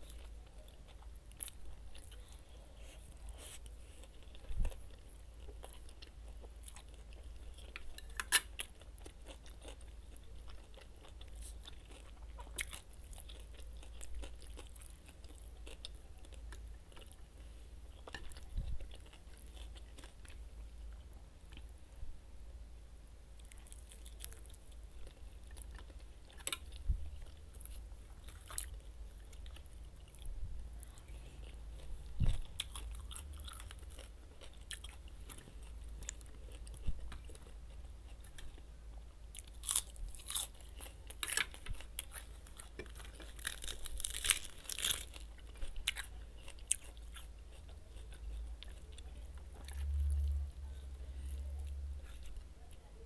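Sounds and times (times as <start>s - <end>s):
person chewing and crunching food: 0.0s - 21.8s, 23.3s - 52.9s.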